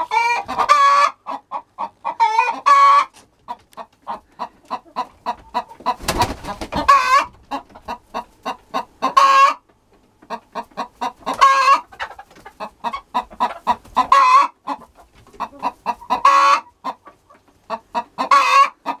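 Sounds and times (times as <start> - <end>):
chicken clucking and squawking: 0.0 - 19.0.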